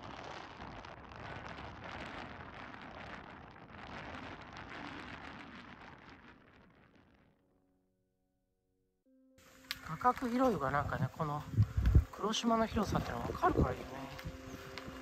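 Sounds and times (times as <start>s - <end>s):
wind buffeting microphone: 0.0s - 7.3s, 9.9s - 15.0s.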